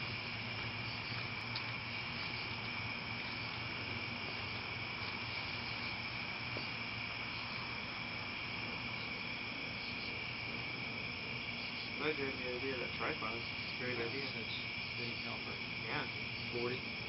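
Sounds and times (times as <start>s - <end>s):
insect chorus trilling: 0.0s - 17.0s
low steady hum: 0.0s - 17.0s.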